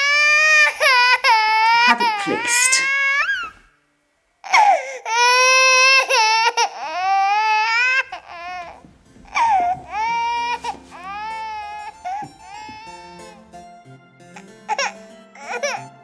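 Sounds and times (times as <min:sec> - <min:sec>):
baby crying: 0:00.0 - 0:03.6, 0:04.4 - 0:13.4, 0:14.7 - 0:16.0
soft music: 0:00.0 - 0:16.0.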